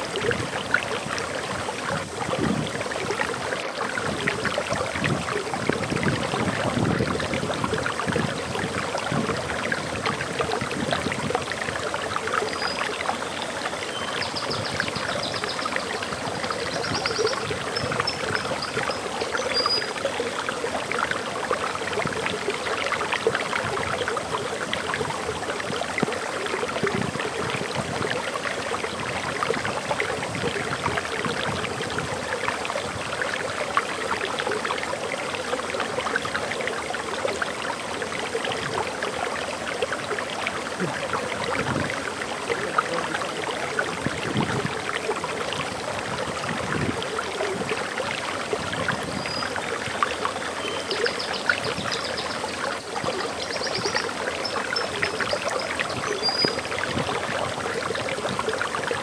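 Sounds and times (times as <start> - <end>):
water rushing over waterfall: 0.0 - 59.0.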